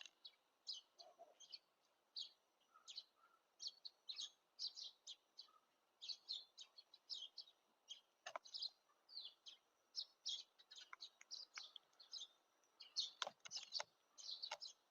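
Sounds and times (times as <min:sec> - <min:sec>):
small songbirds chirping: 0:00.0 - 0:14.9.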